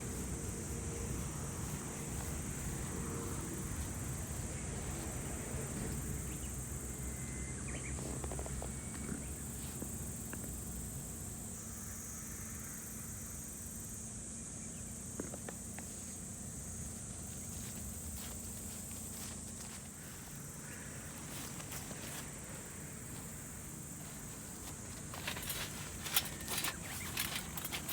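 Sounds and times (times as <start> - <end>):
insects chirring: 0.0 - 27.9.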